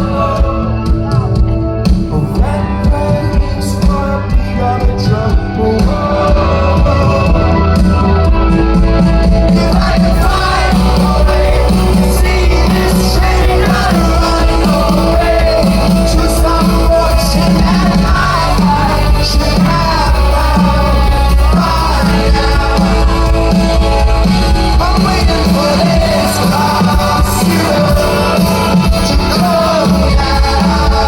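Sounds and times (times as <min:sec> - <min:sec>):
live rock band playing: 0:00.0 - 0:31.0
person singing lead vocal: 0:00.0 - 0:31.0.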